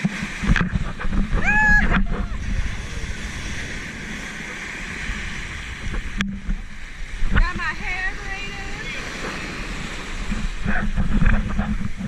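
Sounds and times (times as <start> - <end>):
sea noise: 0.0 - 12.0
wind buffeting microphone: 0.0 - 12.0.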